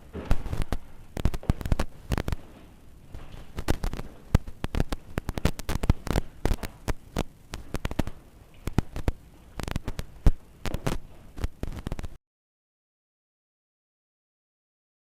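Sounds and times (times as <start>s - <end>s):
crackling clicks and pops: 0.0s - 12.2s
faint low hum: 0.0s - 12.2s.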